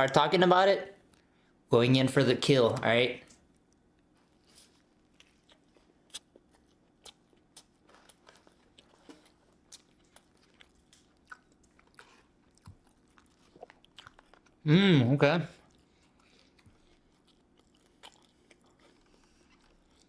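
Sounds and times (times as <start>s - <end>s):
faint chewing with crunches: 1.0s - 1.6s, 2.8s - 14.7s, 15.5s - 20.0s.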